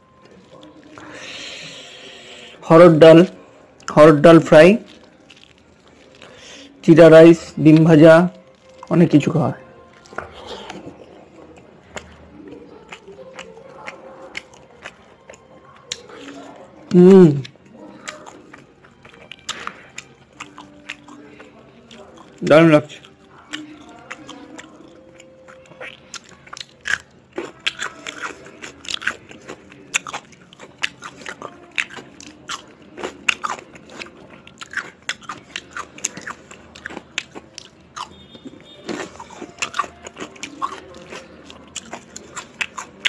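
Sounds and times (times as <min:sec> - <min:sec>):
person chewing and crunching food: 0:00.0 - 0:43.0.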